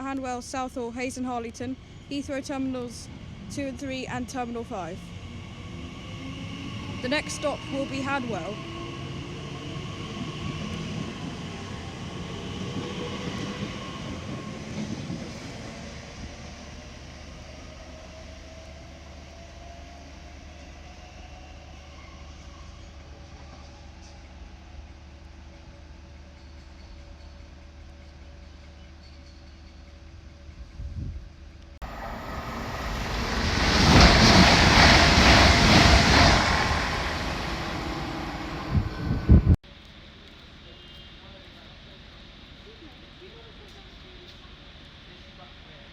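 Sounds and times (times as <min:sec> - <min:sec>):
train rumbling: 0:00.0 - 0:39.6.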